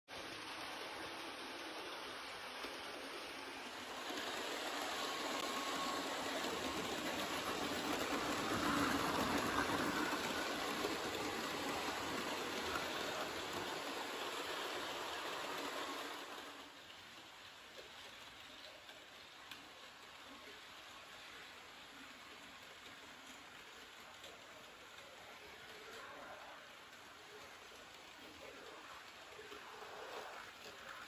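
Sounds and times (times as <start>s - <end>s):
model train rolling whir: 0.1s - 31.0s.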